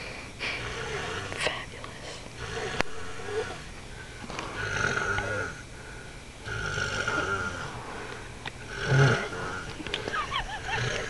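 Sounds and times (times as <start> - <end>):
person snoring: 0.0 - 11.0.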